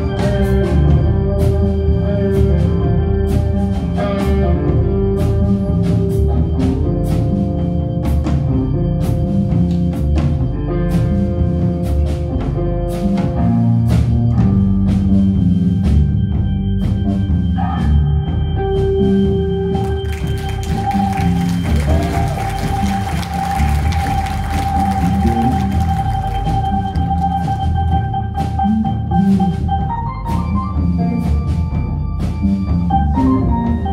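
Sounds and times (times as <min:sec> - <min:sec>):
bass: 0:00.0 - 0:33.9
drum kit: 0:00.0 - 0:33.9
guitar: 0:00.0 - 0:33.9
sustained keyboard chords: 0:00.0 - 0:33.9.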